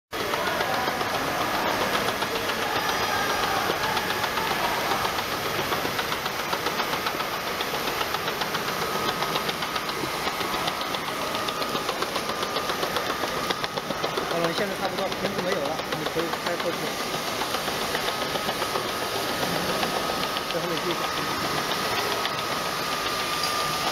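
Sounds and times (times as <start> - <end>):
conveyor machinery rattling: 0.2 - 23.9
steam hissing: 0.2 - 23.9.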